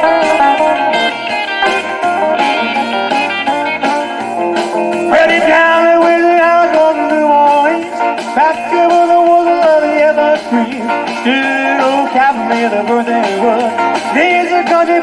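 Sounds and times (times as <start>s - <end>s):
electric guitar bending notes: 0.0s - 15.0s
live rock band music: 0.0s - 15.0s.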